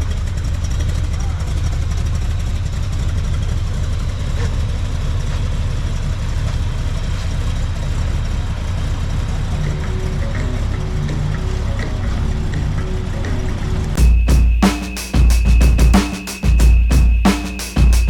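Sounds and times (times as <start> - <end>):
vehicle engine idling: 0.0 - 14.6.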